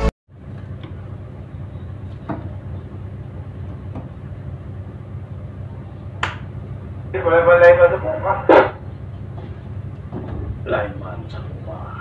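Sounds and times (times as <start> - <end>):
ferry machinery humming: 0.0 - 12.0.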